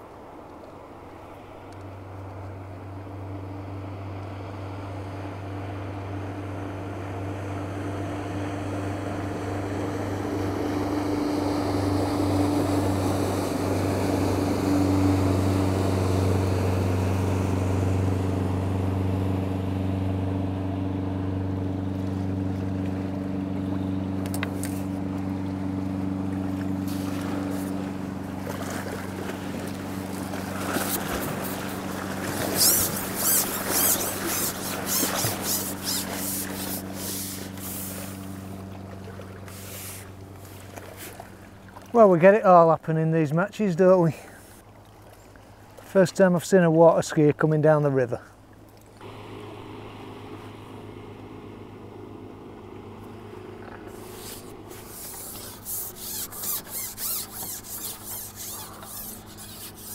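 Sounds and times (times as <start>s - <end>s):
motorboat engine passing: 0.0s - 59.9s.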